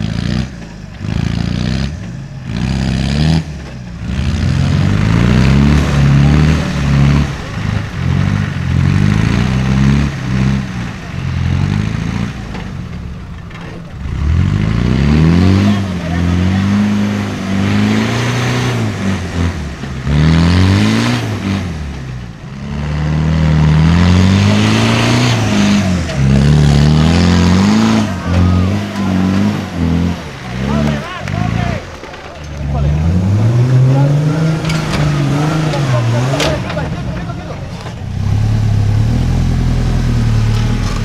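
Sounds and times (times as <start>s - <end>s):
engine revving hard: 0.0s - 12.8s, 14.0s - 41.0s.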